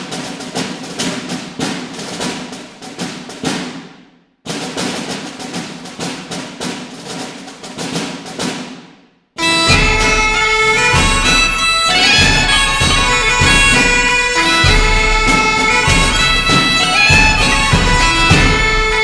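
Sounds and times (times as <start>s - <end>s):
wood-block and drum percussion music: 0.0s - 19.0s.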